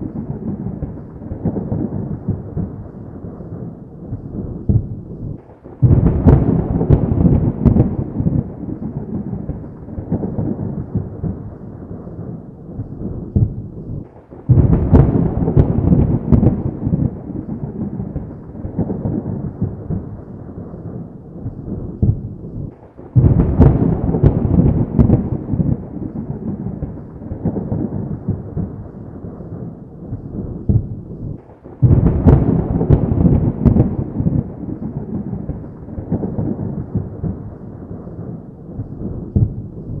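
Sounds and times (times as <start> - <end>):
low thunder rumble: 0.0 - 40.0
thunder cracks: 0.0 - 40.0.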